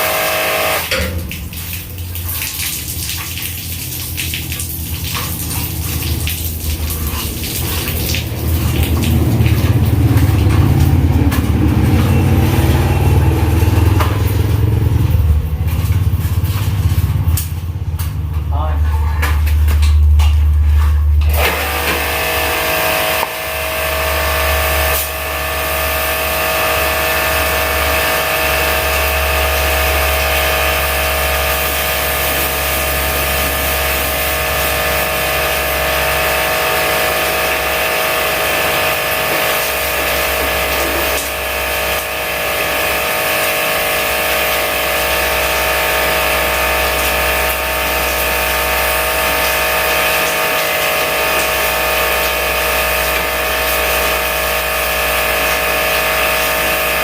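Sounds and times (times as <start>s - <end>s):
pressure-washer pump running: 0.0s - 57.0s.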